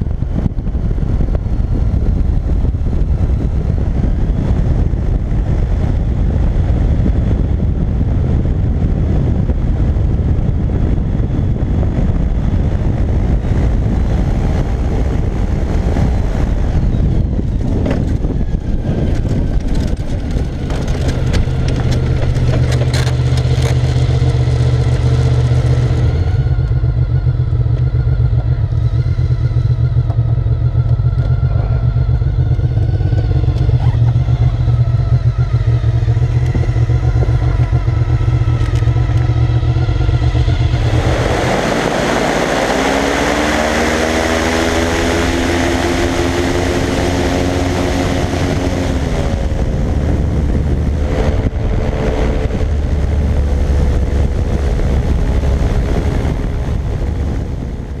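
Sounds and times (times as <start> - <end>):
aircraft engine and propeller: 0.0 - 58.0
wind rush: 0.0 - 58.0.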